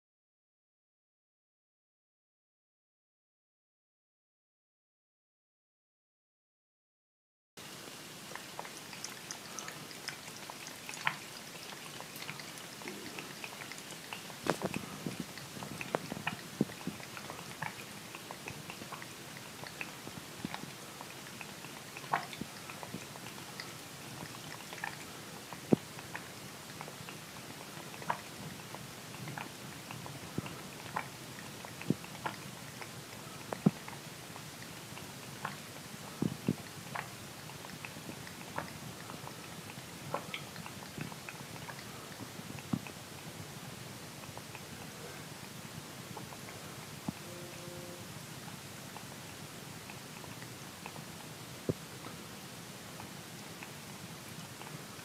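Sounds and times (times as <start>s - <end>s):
running water: 7.6s - 55.0s
cat lapping water: 7.7s - 55.0s.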